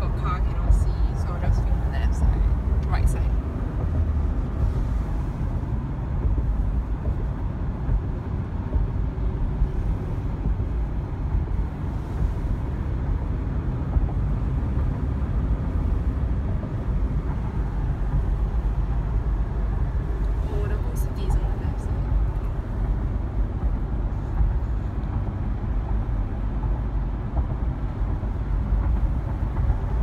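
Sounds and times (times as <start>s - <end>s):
road rumble inside car: 0.0s - 30.0s.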